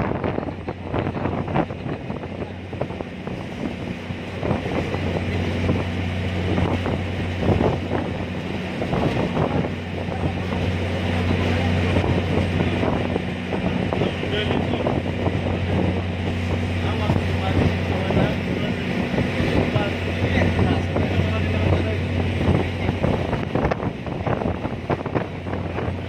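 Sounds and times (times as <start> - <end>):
ferry engine humming: 0.0 - 26.0
wind buffeting microphone: 0.0 - 26.0.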